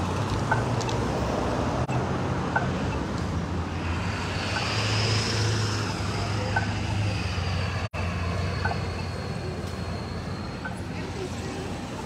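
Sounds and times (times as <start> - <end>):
cars passing: 0.0 - 12.0
vehicle engines humming: 0.0 - 12.0.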